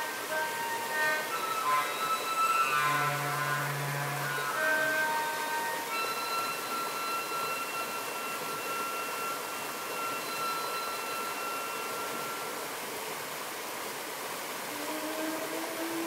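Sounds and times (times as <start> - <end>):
saxophone playing: 0.0 - 12.6, 14.7 - 16.0
river rapids rushing: 0.0 - 16.0.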